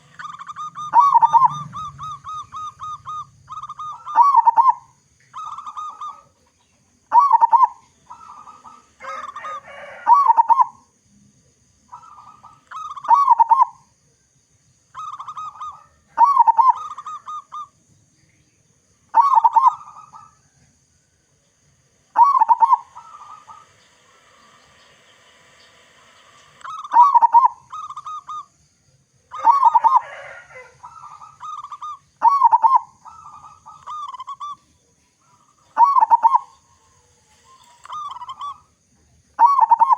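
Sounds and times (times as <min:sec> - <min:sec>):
dove cooing: 0:00.0 - 0:10.8, 0:11.9 - 0:13.9, 0:15.0 - 0:17.7, 0:19.2 - 0:20.6, 0:22.1 - 0:28.5, 0:29.3 - 0:38.7, 0:39.4 - 0:39.9.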